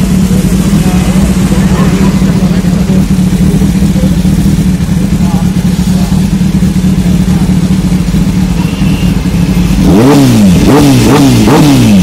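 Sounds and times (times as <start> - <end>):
engine revving: 0.0 - 12.0
motorcycle engine idling: 0.0 - 12.0.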